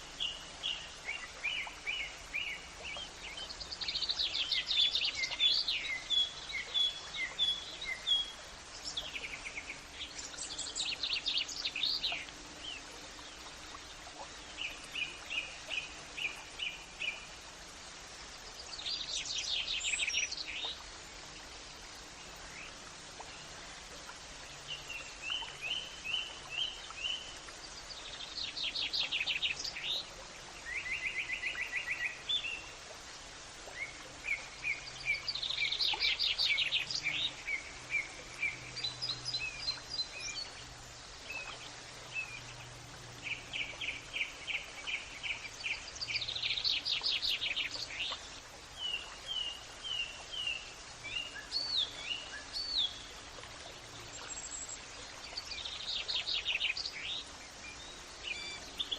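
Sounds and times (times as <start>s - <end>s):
faint outdoor background hiss: 0.0s - 58.9s
songbirds chirping and trilling: 0.0s - 58.9s.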